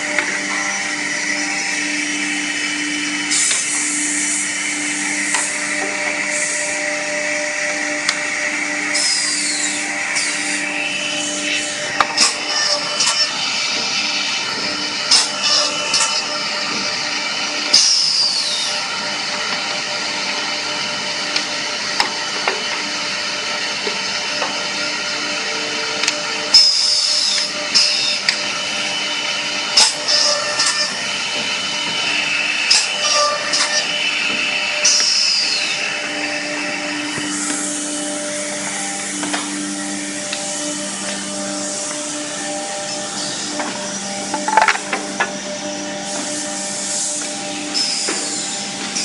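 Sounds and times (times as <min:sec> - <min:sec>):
drilling machine drone and hiss: 0:00.0 - 0:49.0
high whine falling in pitch: 0:00.0 - 0:49.0.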